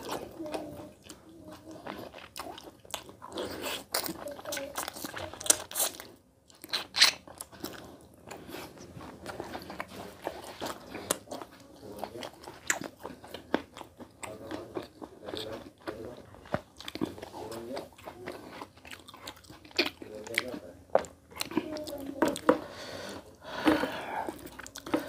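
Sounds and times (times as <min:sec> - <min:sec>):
person chewing: 0:00.0 - 0:25.0.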